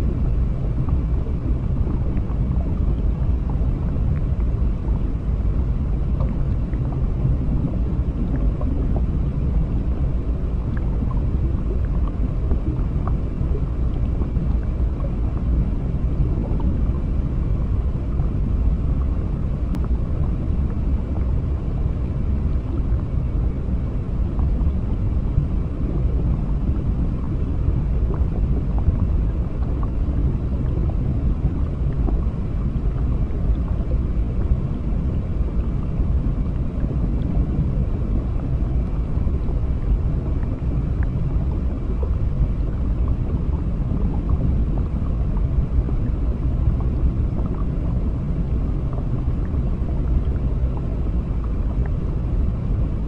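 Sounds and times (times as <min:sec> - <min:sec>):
deep rumbling water wash: 0:00.0 - 0:53.0.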